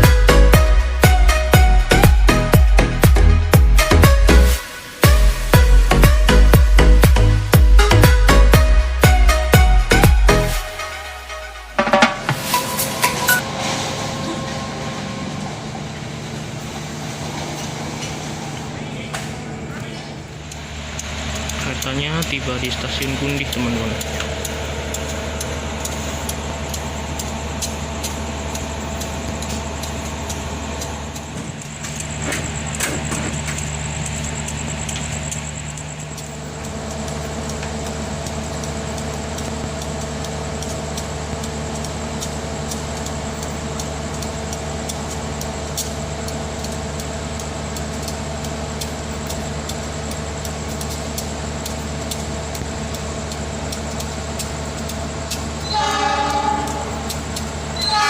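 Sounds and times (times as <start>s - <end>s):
diesel train engine idling: 0.0s - 58.0s.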